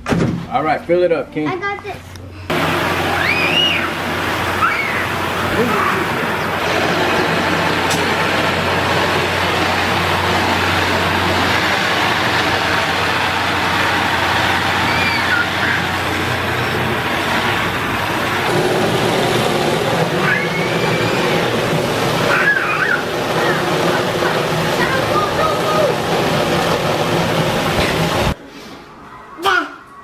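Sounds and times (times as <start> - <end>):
hose spraying water: 2.5 - 28.4.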